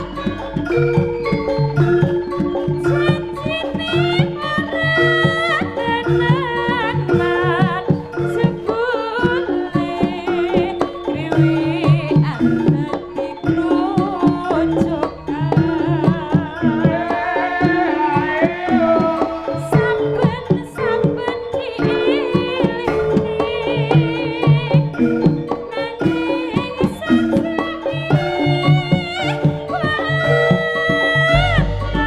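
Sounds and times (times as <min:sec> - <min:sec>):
hand drums playing rhythm: 0:00.0 - 0:32.0
high wavering melody: 0:00.0 - 0:32.0
metallophone tones: 0:00.0 - 0:32.0.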